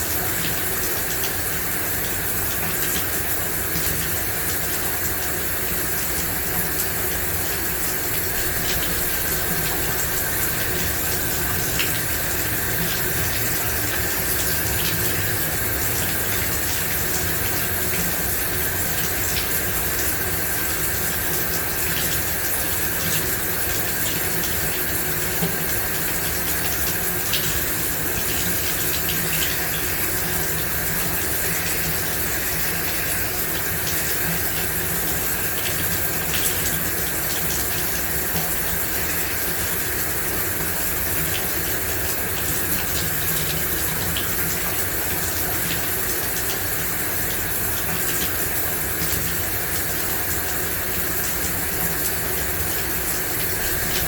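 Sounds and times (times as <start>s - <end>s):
shower water spray hissing: 0.0s - 54.0s
water drips and splashes: 0.0s - 54.0s.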